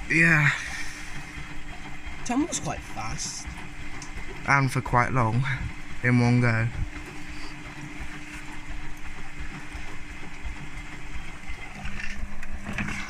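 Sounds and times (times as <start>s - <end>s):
washing machine drum tumbling: 0.0s - 13.0s
washing machine motor hum: 0.0s - 13.0s.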